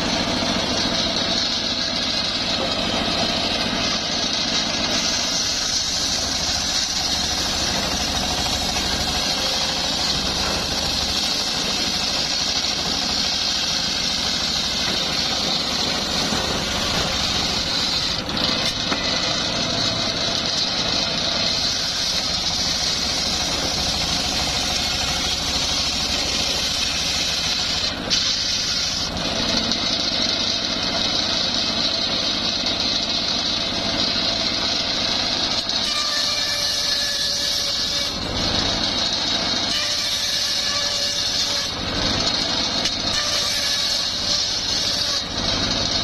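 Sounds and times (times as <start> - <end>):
spinning saw blade hissing: 0.0 - 30.4, 35.5 - 46.0
engine hum: 0.0 - 46.0.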